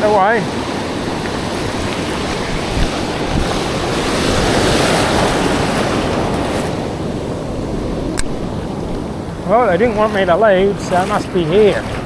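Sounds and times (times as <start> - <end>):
surf breaking on a beach: 0.0 - 12.0
wind buffeting the microphone: 0.0 - 12.0.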